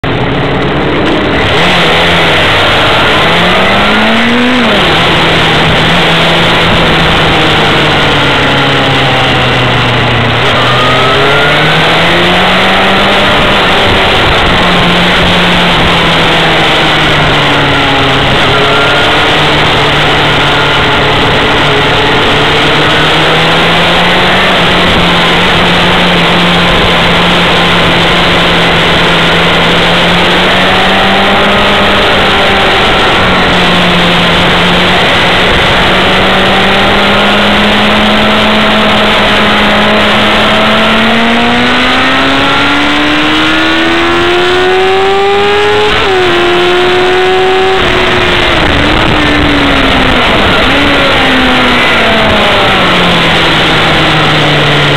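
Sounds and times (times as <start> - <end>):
motorcycle engine accelerating: 0.0 - 54.9
wind on microphone: 0.0 - 54.9.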